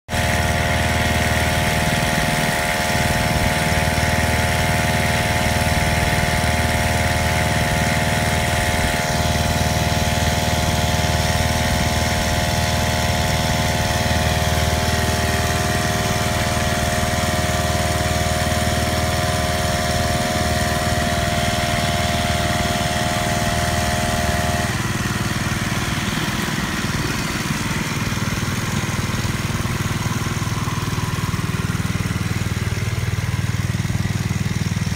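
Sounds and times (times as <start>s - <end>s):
small engine running: 0.0s - 34.9s
steady whine: 5.5s - 34.2s.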